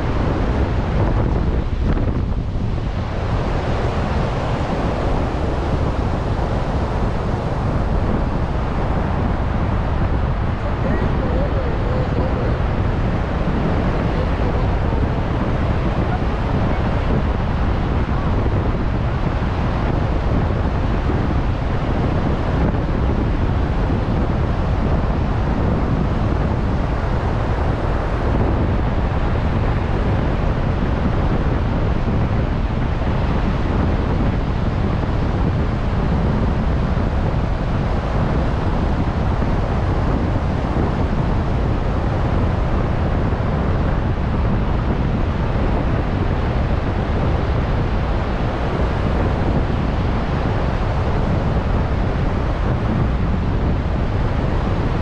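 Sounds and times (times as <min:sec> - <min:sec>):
ocean surf washing: 0:00.0 - 0:55.0
wind buffeting microphone: 0:00.0 - 0:55.0.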